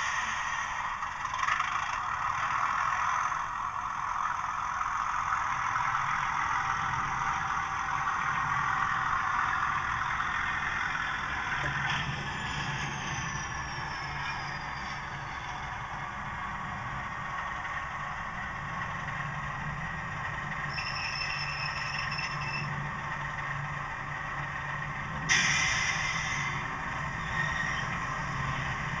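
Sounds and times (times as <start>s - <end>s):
model diesel engine sound: 0.0s - 29.0s.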